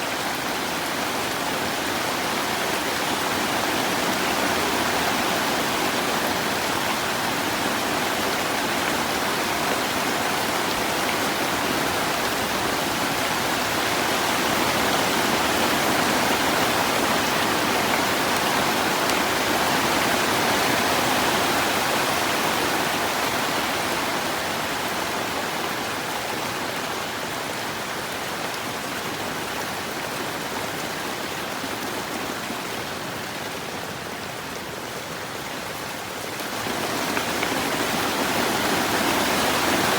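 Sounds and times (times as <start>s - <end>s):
heavy rain on plastic roof: 0.0s - 39.9s.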